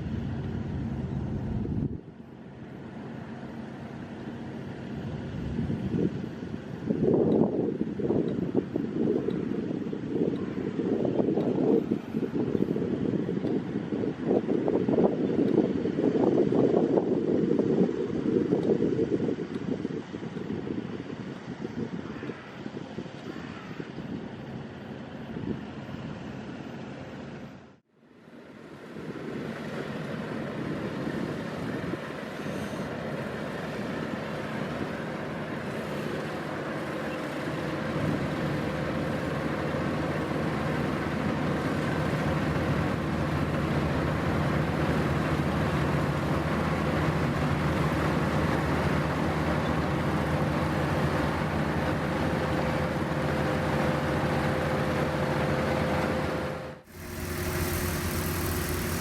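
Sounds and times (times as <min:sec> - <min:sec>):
combine harvester droning: 0:00.0 - 0:27.7, 0:28.3 - 0:59.0.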